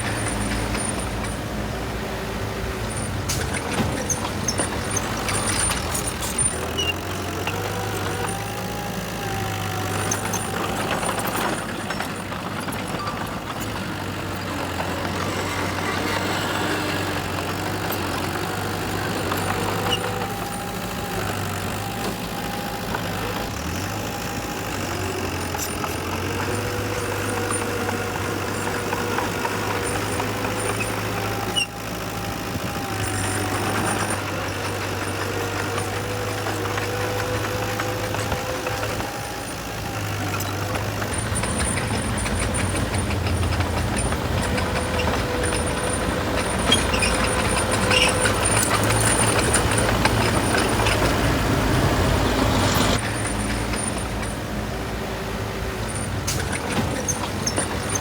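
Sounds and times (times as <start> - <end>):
heavy machinery engines running: 0.0 - 58.0.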